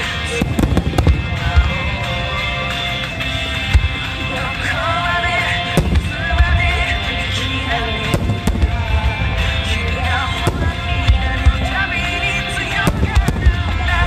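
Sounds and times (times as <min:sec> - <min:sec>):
fireworks booming: 0:00.0 - 0:14.0
fireworks cracking: 0:00.0 - 0:14.0
music from loudspeakers: 0:00.0 - 0:14.0.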